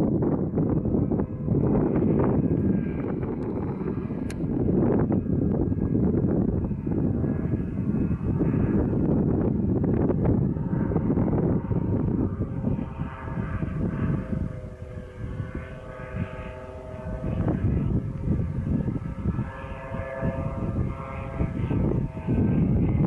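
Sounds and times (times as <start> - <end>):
light airplane engine droning: 0.0 - 23.0
loud low rumble: 0.0 - 23.0.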